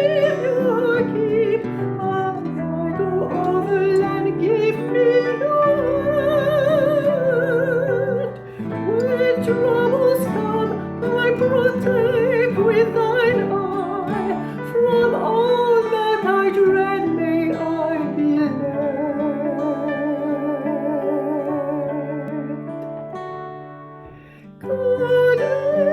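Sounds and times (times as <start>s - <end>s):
plucked-string accompaniment: 0.0s - 25.9s
slow melody with wide vibrato: 0.0s - 25.9s.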